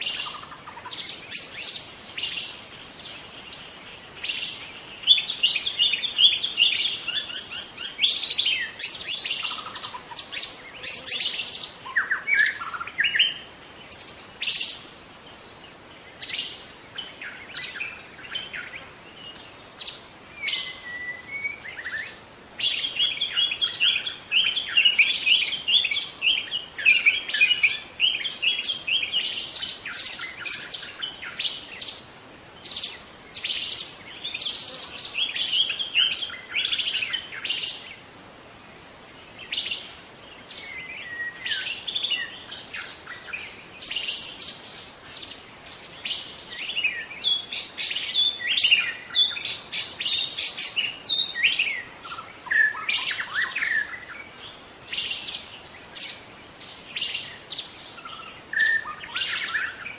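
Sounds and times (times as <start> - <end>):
bird singing chirps and whistles: 0.0 - 14.9, 16.2 - 32.0, 39.4 - 59.9.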